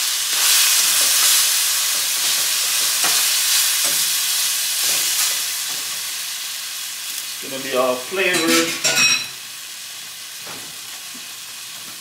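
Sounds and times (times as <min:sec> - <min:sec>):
tomatoes sizzling in a wok: 0:00.0 - 0:12.0.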